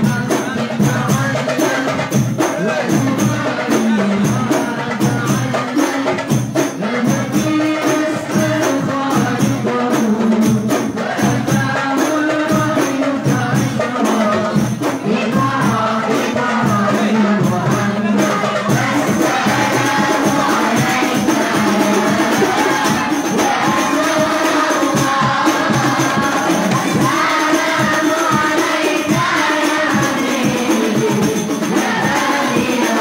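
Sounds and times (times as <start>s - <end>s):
hand-struck frame drums: 0.0s - 33.0s
voices singing devotional song: 0.0s - 33.0s.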